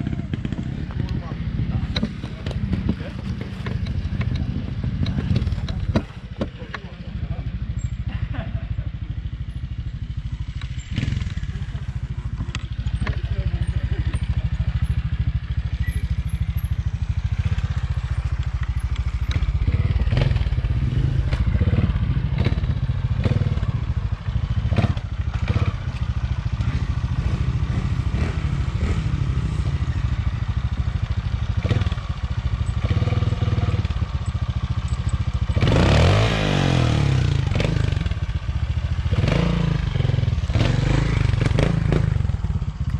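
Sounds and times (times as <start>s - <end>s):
knocks and clatter of bike: 0.0s - 8.4s, 9.3s - 36.2s
motorcycle engine revving: 0.0s - 42.9s.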